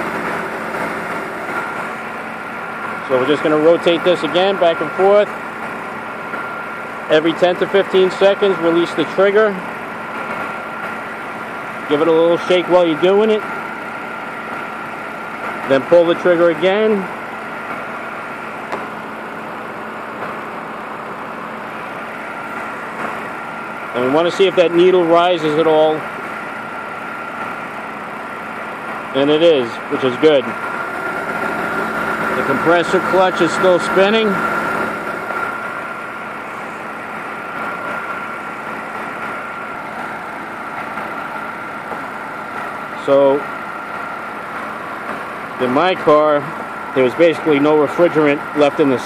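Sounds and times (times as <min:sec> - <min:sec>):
car engine idling: 0:00.0 - 0:49.0
high-pitched compressor whine: 0:00.0 - 0:49.0.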